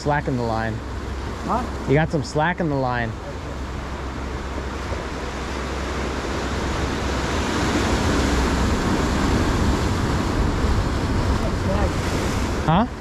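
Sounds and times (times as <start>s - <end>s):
surf washing over rocks: 0.0s - 13.0s
wave breaking: 0.0s - 13.0s
wind rumbling on microphone: 0.8s - 13.0s.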